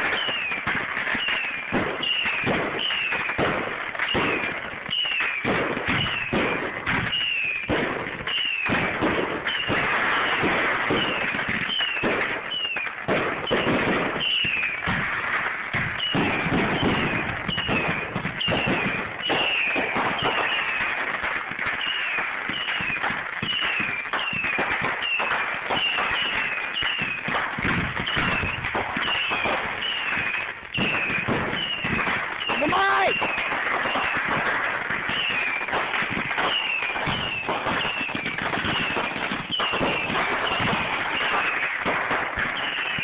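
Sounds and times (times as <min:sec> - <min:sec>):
fireworks cracking and banging: 0:00.0 - 0:43.0.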